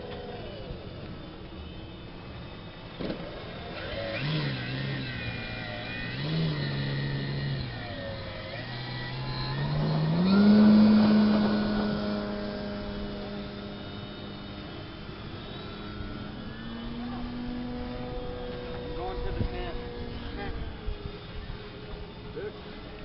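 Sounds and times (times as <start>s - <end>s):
drone propellers humming: 0.0s - 23.0s.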